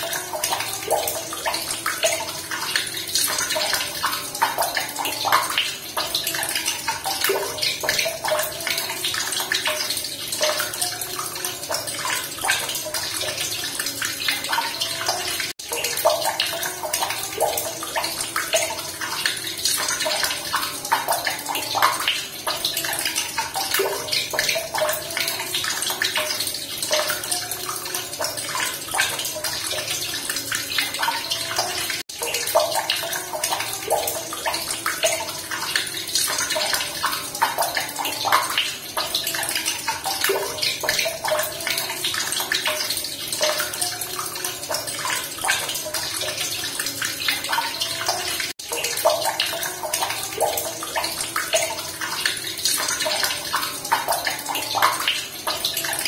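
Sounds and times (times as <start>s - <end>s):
running water splashing and bubbling: 0.0s - 56.0s.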